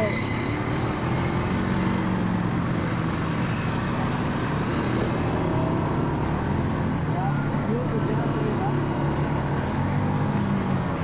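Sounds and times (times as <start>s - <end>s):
quad bike engine droning: 0.0s - 11.0s.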